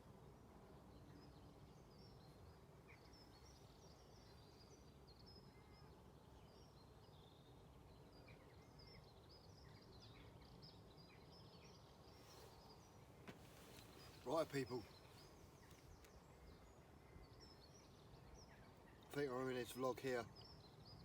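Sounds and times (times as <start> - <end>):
low steady hiss: 0.0 - 21.0
songbirds chirping and trilling: 0.0 - 21.0.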